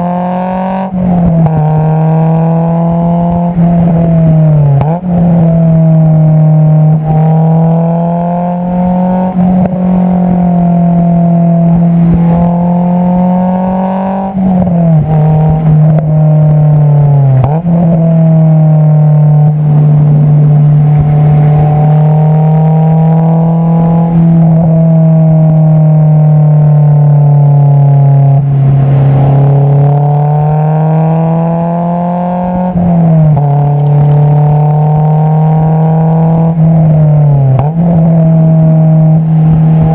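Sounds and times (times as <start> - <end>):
sports car exhaust while driving: 0.0 - 39.9.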